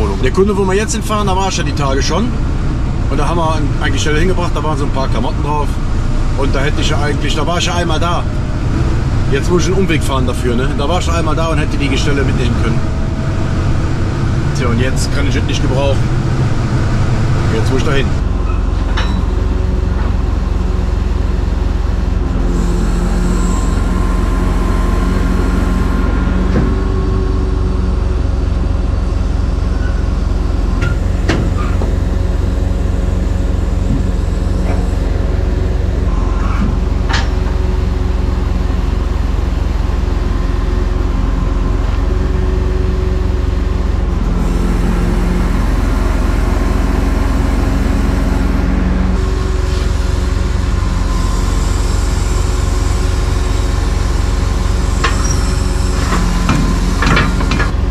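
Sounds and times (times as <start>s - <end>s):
truck engine running: 0.0s - 57.9s.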